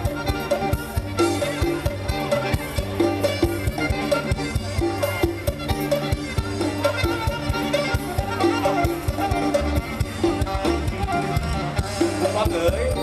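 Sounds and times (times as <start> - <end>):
bending lead melody: 0.0 - 13.0
live band music: 0.0 - 13.0
steady drum beat: 0.0 - 13.0
sustained bass notes: 0.0 - 13.0.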